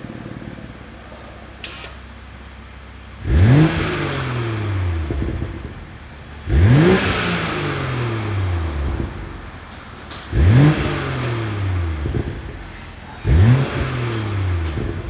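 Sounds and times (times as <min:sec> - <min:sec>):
car engine revving: 0:00.0 - 0:15.0
exhaust crackles: 0:00.0 - 0:15.0.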